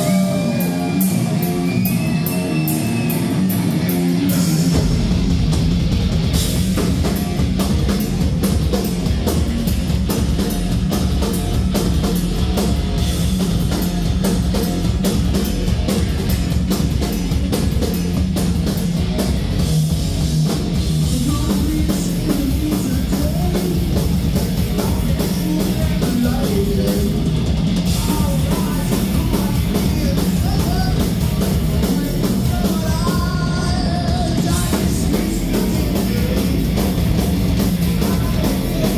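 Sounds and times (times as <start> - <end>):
fast drumming: 0.0 - 38.9
heavy metal band playing live: 0.0 - 38.9.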